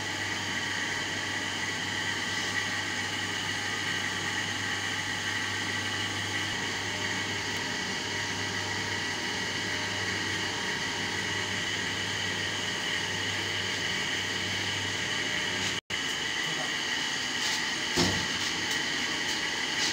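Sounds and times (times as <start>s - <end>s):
hydraulic pump humming and whining: 0.0s - 19.9s.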